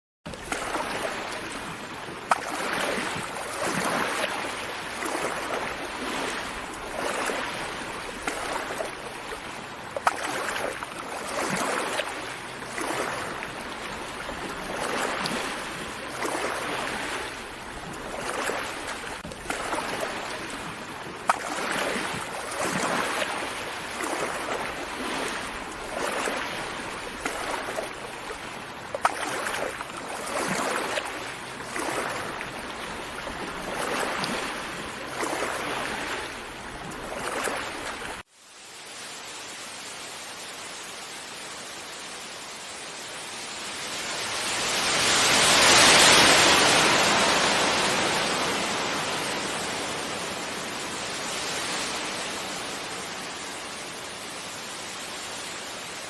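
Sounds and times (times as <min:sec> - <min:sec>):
sea waves lapping on shore: 0:00.3 - 0:56.0.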